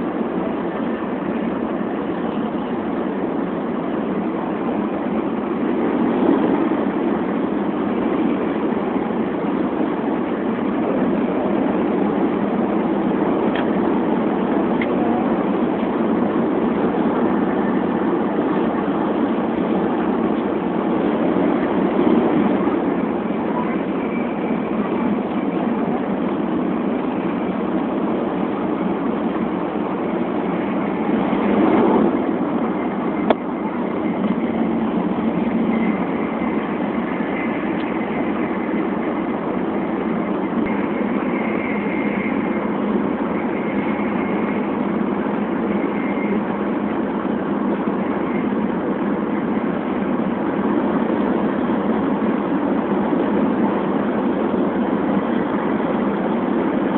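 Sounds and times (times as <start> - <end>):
train running noise in cabin: 0.0 - 56.9.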